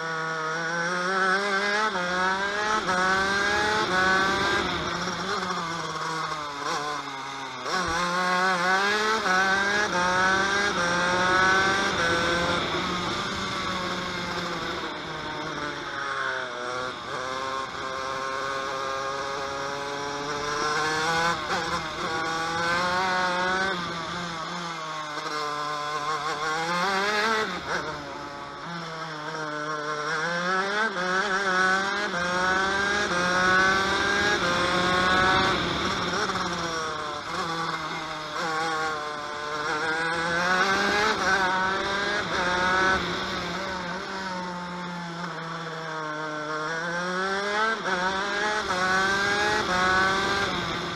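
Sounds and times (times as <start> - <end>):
kart engine revving: 0.0 - 50.9.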